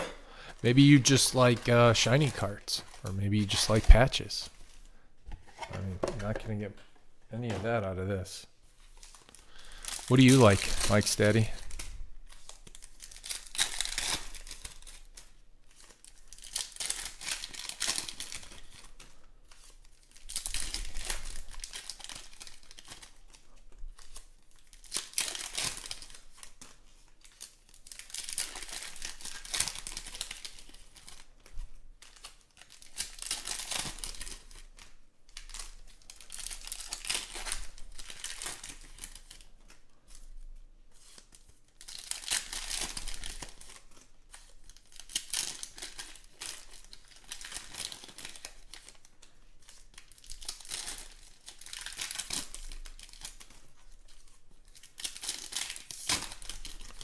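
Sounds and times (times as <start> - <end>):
foil wrappers crinkling and tearing: 8.8 - 57.0.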